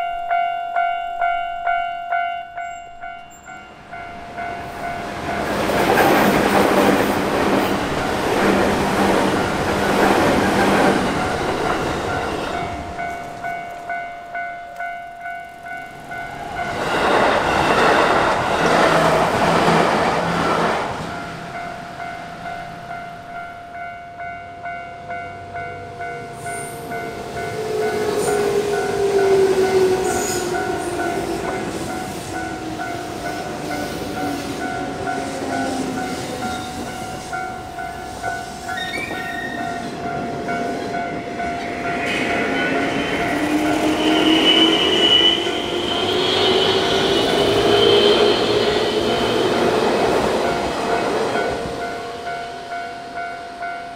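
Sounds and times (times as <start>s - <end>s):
level-crossing warning bell ringing: 0.0s - 19.4s, 20.4s - 53.9s
electric train rumbling and whining: 0.0s - 53.9s.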